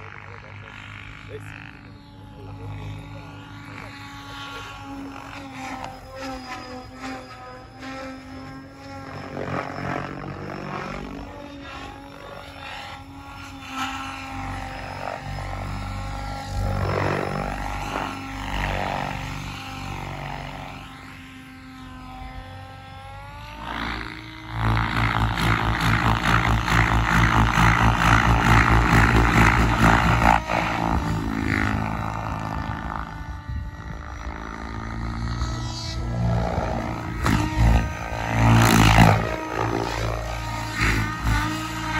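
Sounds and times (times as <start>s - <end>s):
fast rotor chop: 0.0s - 41.9s
model helicopter flying: 0.0s - 41.9s.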